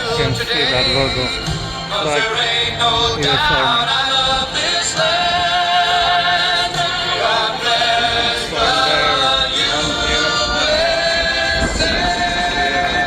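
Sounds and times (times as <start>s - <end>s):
choir singing sustained notes: 0.0s - 13.0s
music: 0.0s - 13.0s.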